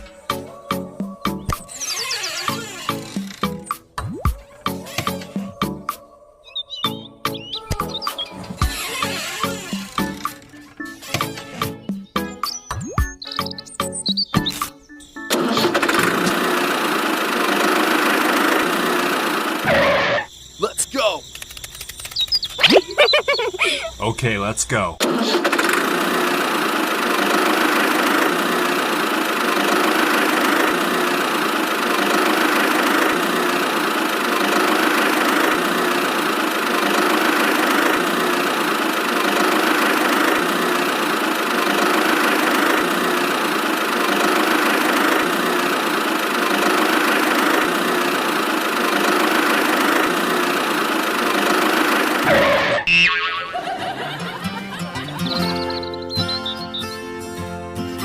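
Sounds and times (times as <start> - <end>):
tractor engine running: 0.0 - 4.0, 4.6 - 20.2, 24.0 - 57.4.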